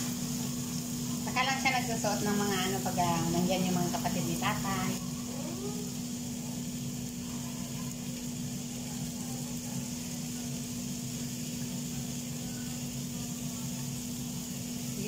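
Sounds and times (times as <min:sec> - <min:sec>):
meat sizzling on griddle: 0:00.0 - 0:15.0.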